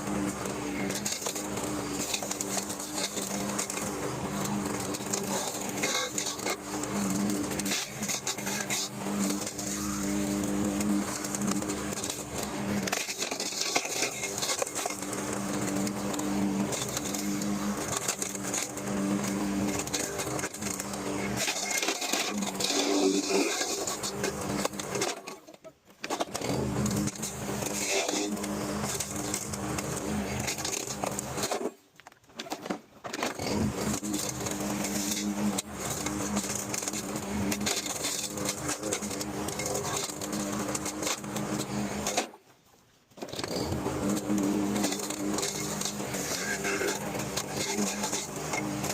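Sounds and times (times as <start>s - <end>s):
lawnmower engine running: 0.0s - 25.4s, 26.0s - 31.7s, 33.3s - 42.3s, 43.2s - 48.9s
blade grinding tree limbs: 0.0s - 42.4s, 43.2s - 48.9s.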